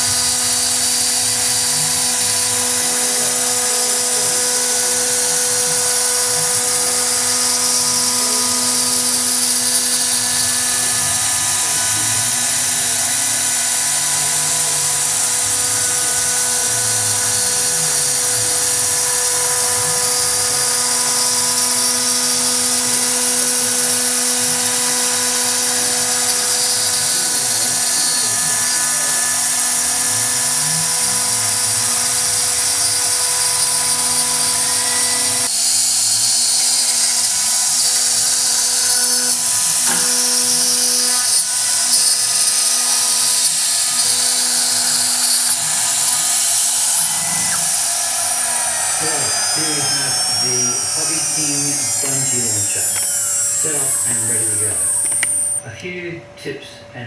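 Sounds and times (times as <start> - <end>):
router spindle whining: 0.0 - 57.0.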